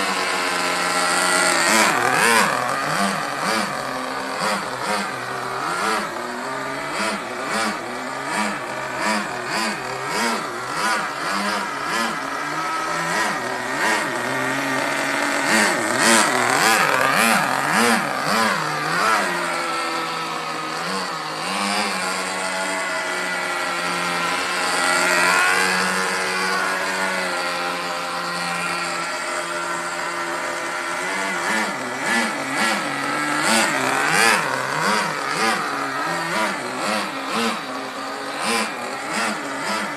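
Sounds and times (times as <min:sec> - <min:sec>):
rc buggy engine revving: 0:00.0 - 0:39.9.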